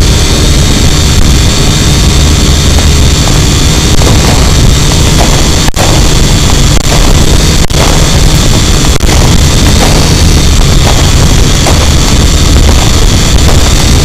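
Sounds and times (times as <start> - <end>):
drone motors and propellers: 0.0 - 14.0.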